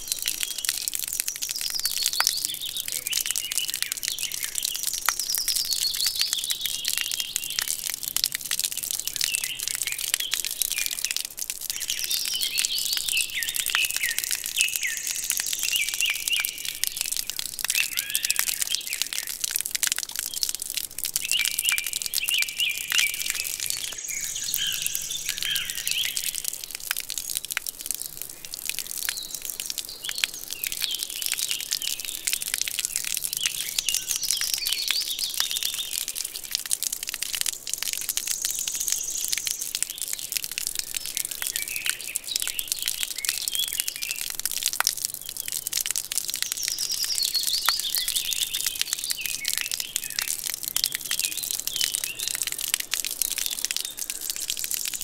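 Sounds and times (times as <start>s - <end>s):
small birds chirping: 0.0s - 7.8s, 8.9s - 36.6s, 37.5s - 44.3s, 45.1s - 55.0s
continuous fine crackling: 0.0s - 55.0s.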